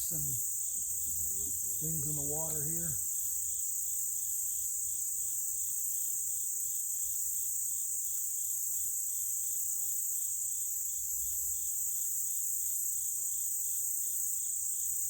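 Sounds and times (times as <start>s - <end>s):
insect chirp pulsing: 0.0s - 15.0s
insects buzzing: 0.0s - 15.0s.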